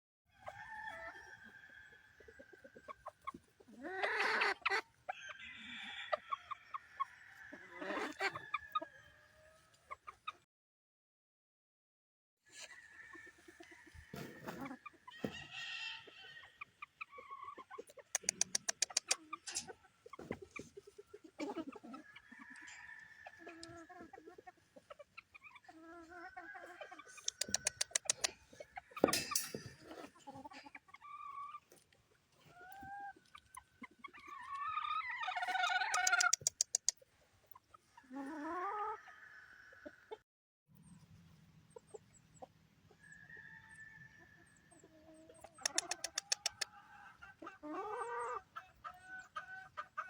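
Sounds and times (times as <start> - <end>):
chickens clucking: 0.4 - 10.5, 12.5 - 40.2, 40.8 - 50.0.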